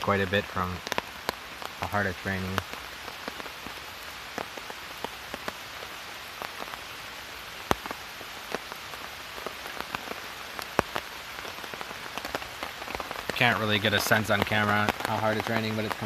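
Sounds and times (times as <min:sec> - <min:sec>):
heavy rain on a tarp: 0:00.0 - 0:16.0.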